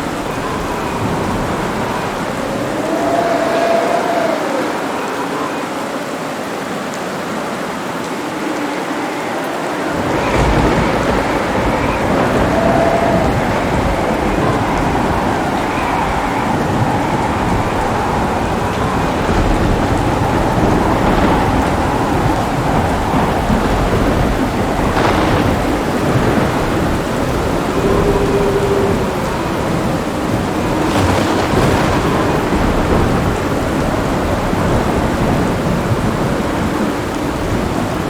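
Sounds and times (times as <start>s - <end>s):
rolling thunder: 0.0s - 5.4s, 9.4s - 38.0s
heavy rain: 0.0s - 38.0s.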